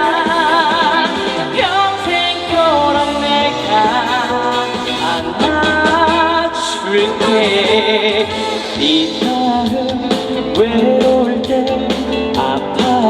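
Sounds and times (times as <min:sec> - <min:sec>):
band playing: 0:00.0 - 0:13.0.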